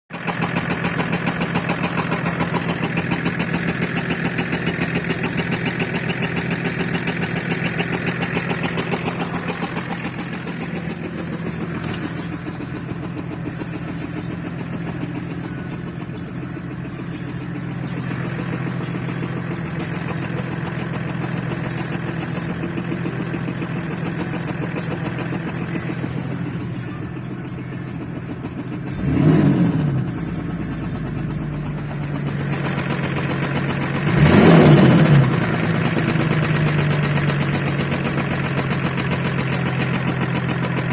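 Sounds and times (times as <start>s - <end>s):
diesel engine knocking: 0.1s - 40.9s.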